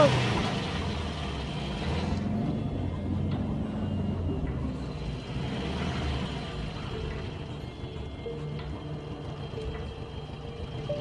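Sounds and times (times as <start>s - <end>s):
motor vehicle engine rumble: 0.0s - 11.0s.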